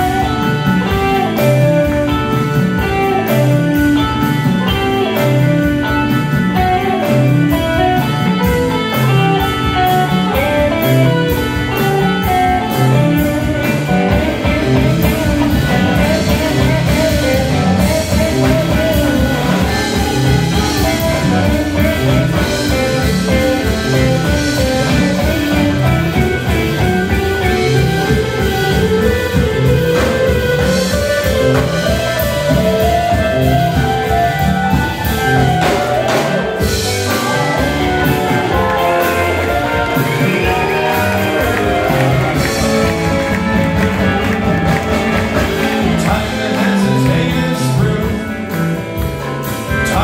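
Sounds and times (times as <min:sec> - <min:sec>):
bass line: 0:00.0 - 0:50.0
drum kit: 0:00.0 - 0:50.0
electric guitar: 0:00.0 - 0:50.0.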